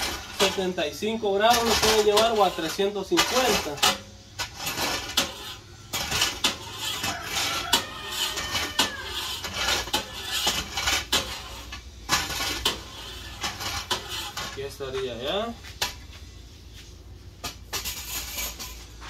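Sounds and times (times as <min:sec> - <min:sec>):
metal kitchenware clattering: 0:00.0 - 0:15.0, 0:17.4 - 0:19.0.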